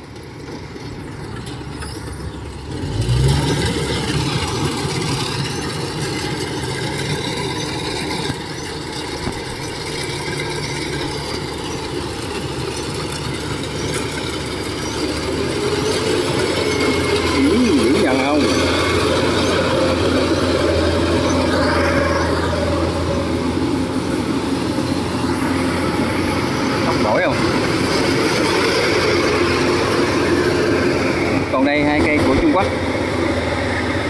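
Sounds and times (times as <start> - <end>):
combine harvester diesel engine: 0.0 - 34.0.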